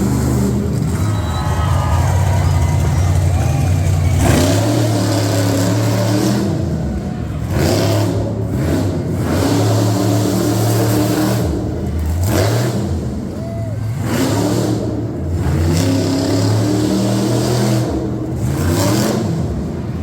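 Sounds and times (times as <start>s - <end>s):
truck engine revving loudly: 0.0s - 20.0s.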